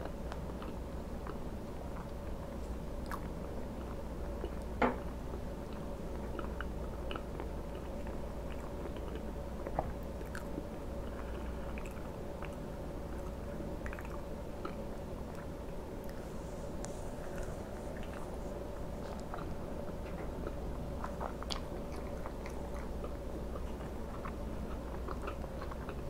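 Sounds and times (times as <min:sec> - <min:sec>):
faint steady hum: 0:00.0 - 0:26.0
person chewing food: 0:00.0 - 0:26.0.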